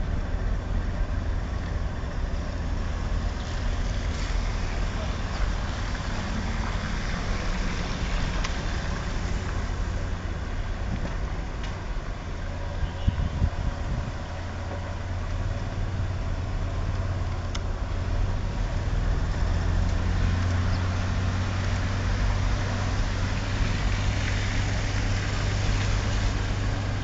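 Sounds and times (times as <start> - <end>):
engine low drone: 0.0 - 27.0.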